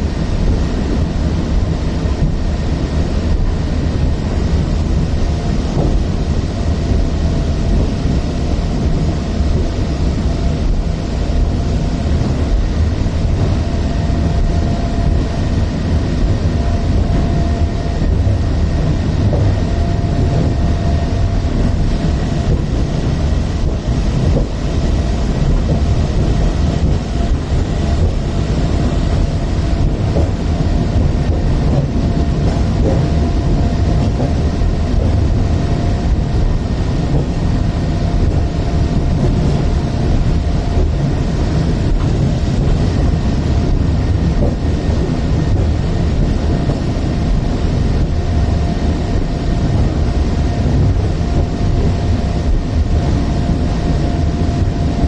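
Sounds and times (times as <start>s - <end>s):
thin steady whine: 0.0s - 55.0s
tram wheels rumbling on rails: 0.0s - 55.0s.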